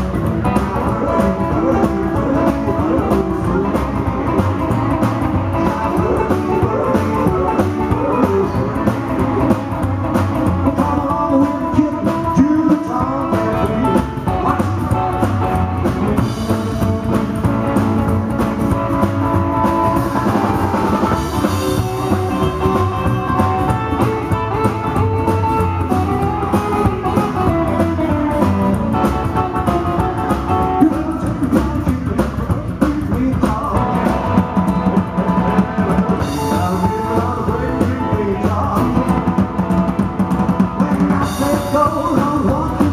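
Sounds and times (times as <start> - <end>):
drum kit: 0.0 - 42.9
electric guitar: 0.0 - 42.9
upright double bass: 0.0 - 42.9.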